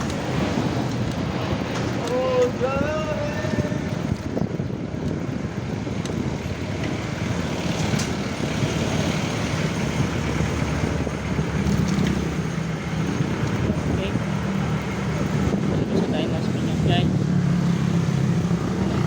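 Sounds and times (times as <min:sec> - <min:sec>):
low engine hum: 0:00.0 - 0:19.0
street traffic rumble: 0:00.0 - 0:19.0.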